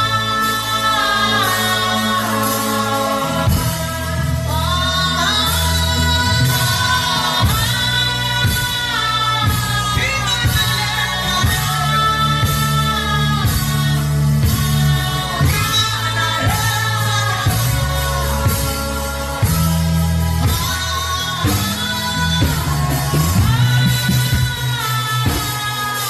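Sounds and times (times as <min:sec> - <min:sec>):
instrumental accompaniment: 0:00.0 - 0:26.0.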